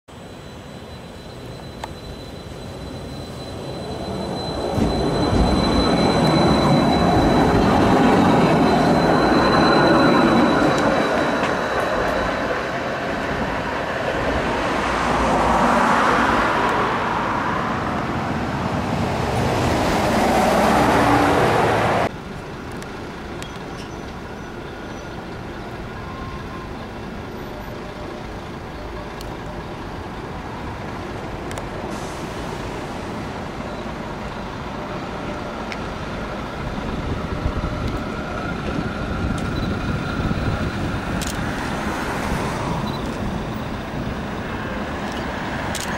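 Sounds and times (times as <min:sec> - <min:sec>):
street traffic noise: 0:00.1 - 0:45.9
tram rolling past: 0:00.1 - 0:45.9
tram whine: 0:00.1 - 0:45.9.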